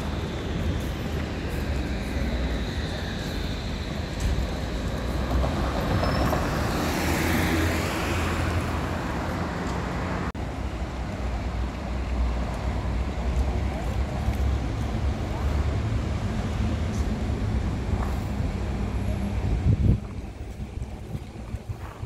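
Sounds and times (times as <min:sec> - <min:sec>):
city traffic rumble: 0:00.0 - 0:22.0.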